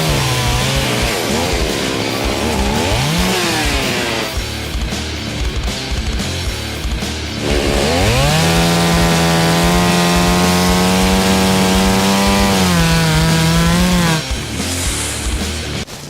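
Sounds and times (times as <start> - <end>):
chainsaw revving: 0.0 - 15.8
background music: 0.0 - 16.0.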